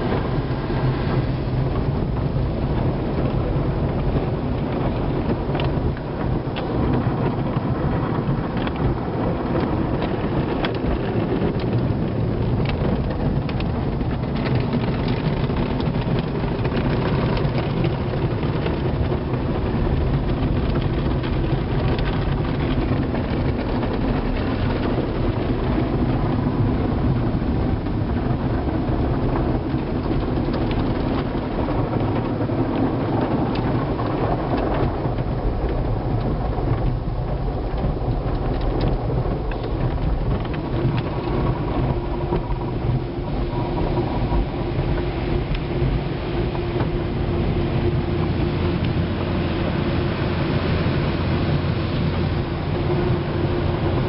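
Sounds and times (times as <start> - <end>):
deep rumble: 0.0 - 54.0.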